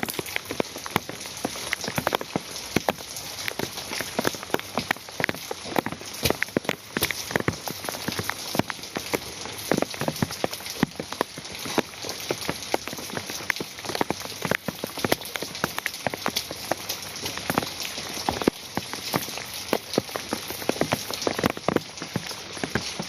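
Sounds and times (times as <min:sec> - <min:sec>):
rain falling: 0:00.0 - 0:23.0
sharp raindrops striking surface: 0:00.0 - 0:23.0.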